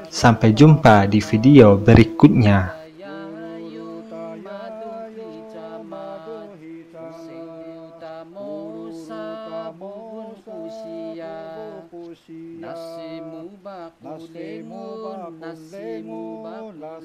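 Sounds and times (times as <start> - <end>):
men singing slow chant: 0.0 - 17.0.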